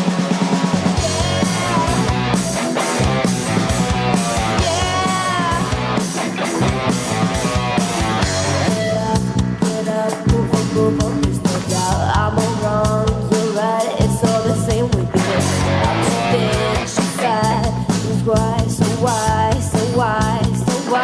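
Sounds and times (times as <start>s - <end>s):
drum kit: 0.0s - 21.0s
electric guitars: 0.0s - 21.0s.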